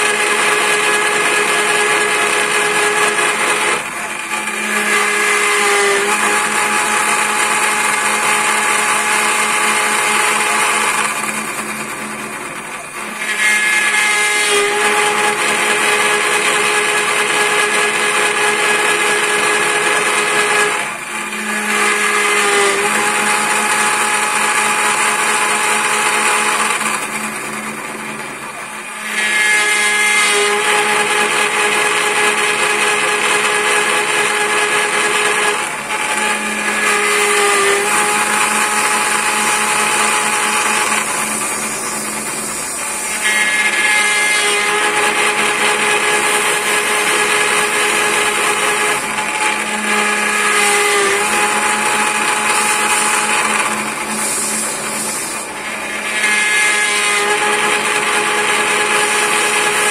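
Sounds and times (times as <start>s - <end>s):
end mill cutting wood: 0.0s - 59.9s
spindle whining: 0.0s - 59.9s.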